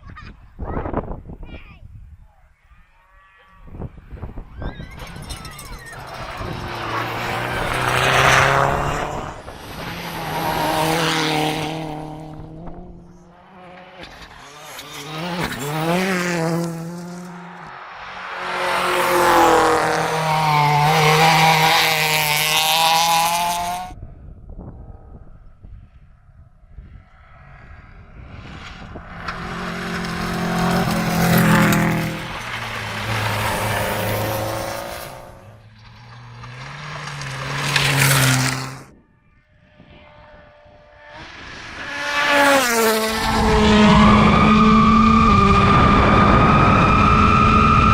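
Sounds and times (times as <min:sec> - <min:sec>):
rally car engine revving: 0:04.9 - 0:24.0, 0:27.3 - 0:38.9, 0:39.8 - 0:47.9.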